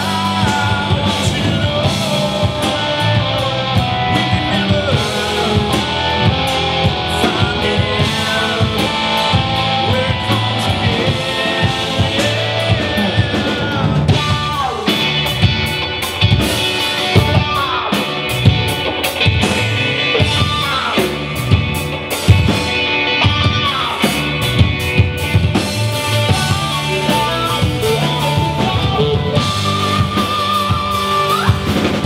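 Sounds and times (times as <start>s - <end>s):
bending guitar melody: 0.0s - 32.0s
live rock band playing: 0.0s - 32.0s.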